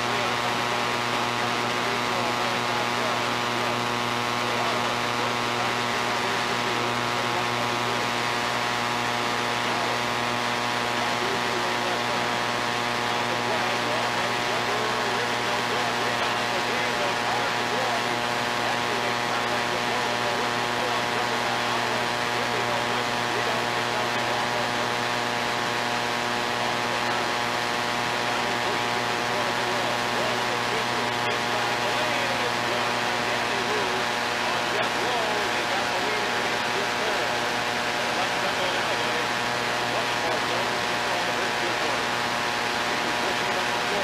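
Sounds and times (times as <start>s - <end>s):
electrical hum: 0.0s - 44.0s
tape hiss: 0.0s - 44.0s.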